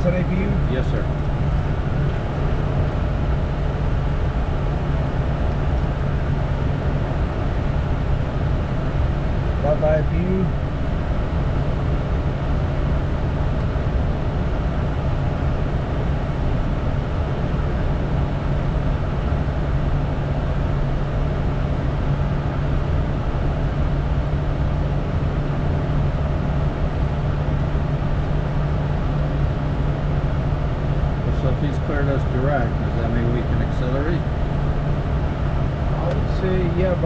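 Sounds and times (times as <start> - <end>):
low engine hum: 0.0 - 37.0
rush of air in cabin: 0.0 - 37.0.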